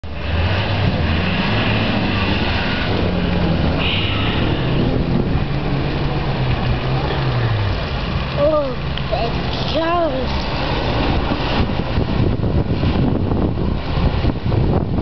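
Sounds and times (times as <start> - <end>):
off-road vehicle engine revving: 0.0 - 14.8.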